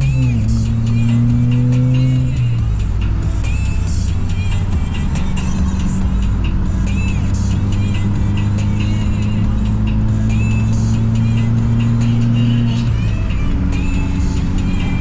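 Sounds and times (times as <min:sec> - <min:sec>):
car road noise: 0:00.0 - 0:15.0
music with deep bass note: 0:00.0 - 0:15.0.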